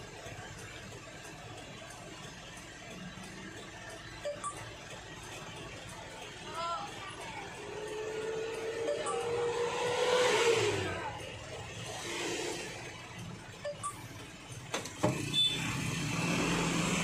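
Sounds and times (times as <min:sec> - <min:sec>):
passing traffic: 0:00.0 - 0:17.0
truck road noise whine: 0:00.0 - 0:17.0.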